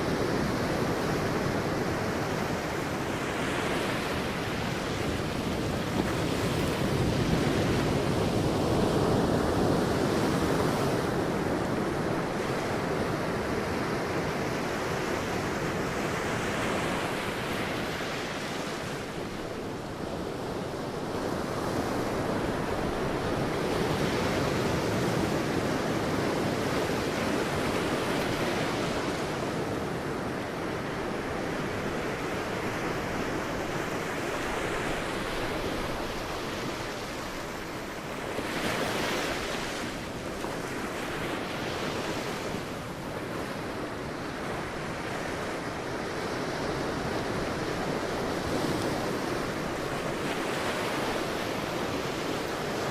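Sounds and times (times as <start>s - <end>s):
sea waves breaking on beach: 0.0s - 52.9s
wind on microphone: 0.0s - 52.9s.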